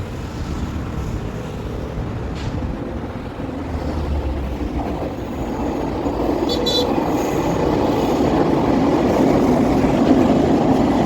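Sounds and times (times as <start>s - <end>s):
train running with low rumble: 0.0s - 11.0s.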